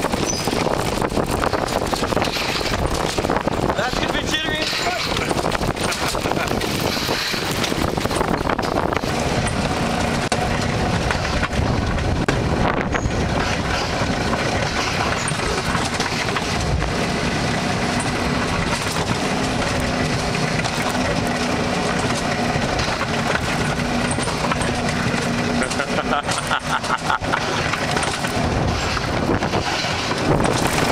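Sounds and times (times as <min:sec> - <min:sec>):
bobsled car rumbling: 0:00.0 - 0:30.9
wind noise on microphone: 0:00.0 - 0:30.9.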